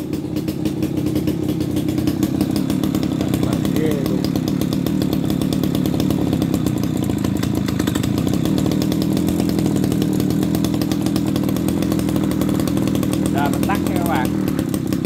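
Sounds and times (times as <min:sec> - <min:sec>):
brush cutter engine running: 0:00.0 - 0:15.0.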